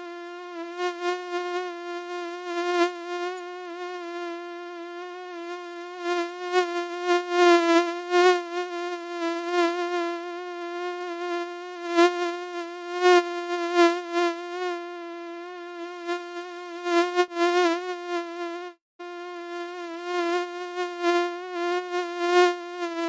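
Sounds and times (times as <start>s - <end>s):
mosquito wing whine: 0.0s - 23.0s.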